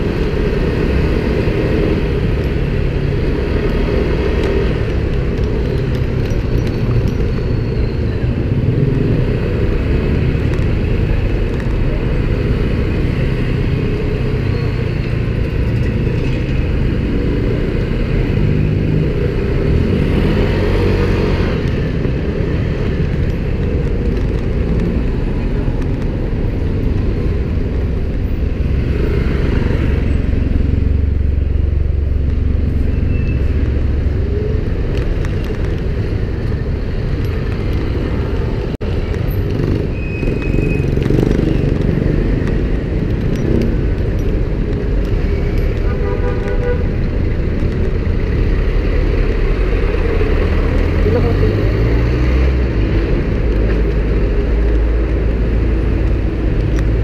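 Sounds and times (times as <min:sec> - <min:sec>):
cars and motorcycles passing: 0:00.0 - 0:57.0.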